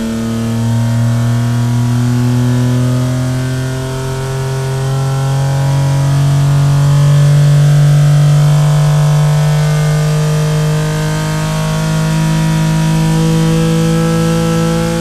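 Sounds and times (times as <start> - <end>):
engine revving under full load: 0.0 - 15.0.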